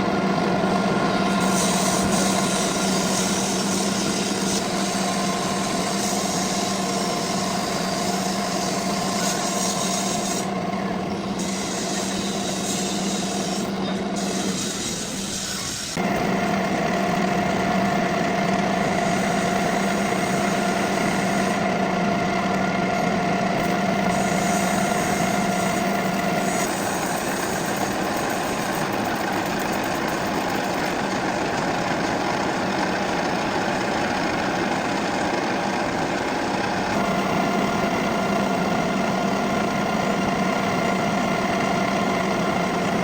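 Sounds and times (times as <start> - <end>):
high machine whine: 0.0 - 43.0
metal lathe hum: 0.0 - 43.0.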